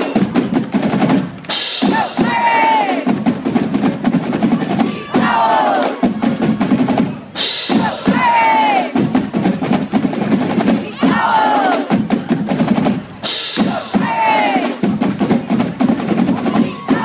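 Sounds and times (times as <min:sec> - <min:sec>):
bass drums: 0:00.0 - 0:17.0
snare drum strokes: 0:00.0 - 0:17.0.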